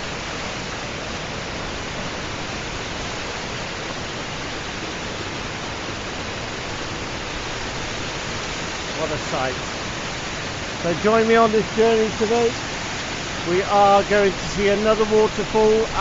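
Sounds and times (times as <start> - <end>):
small waterfall splashing: 0.0 - 16.0.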